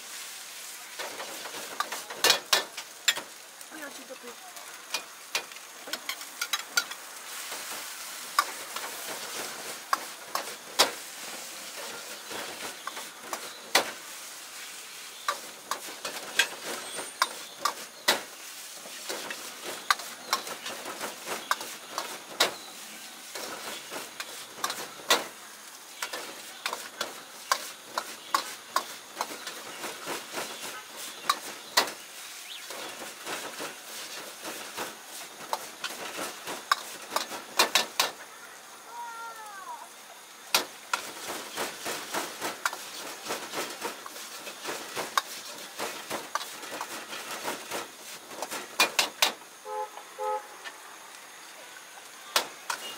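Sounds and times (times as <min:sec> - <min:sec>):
rice sizzling in a wok: 0:00.0 - 0:52.9.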